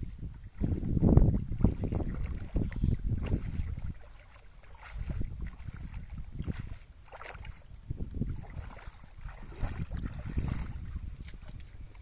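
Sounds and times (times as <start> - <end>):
shallow water sloshing and dripping: 0.0 - 12.0
wind rumble on microphone: 0.0 - 12.0.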